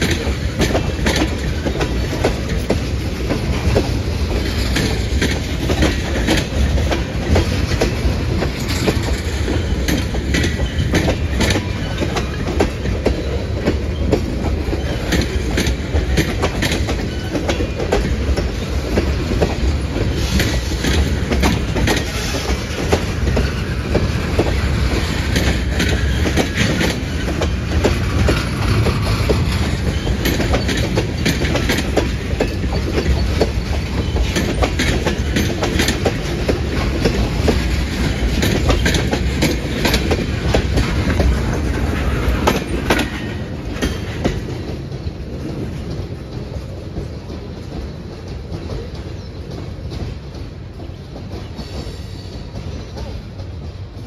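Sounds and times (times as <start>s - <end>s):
freight train rumbling past: 0.0s - 54.0s
wheels clicking over rail joints: 0.0s - 54.0s.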